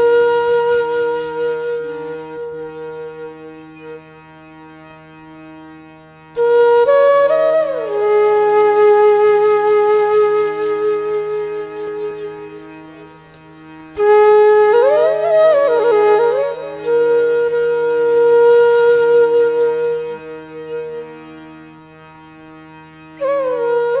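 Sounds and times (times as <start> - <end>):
flute melody: 0.0 - 5.6, 6.2 - 24.0
steady drone: 0.0 - 24.0.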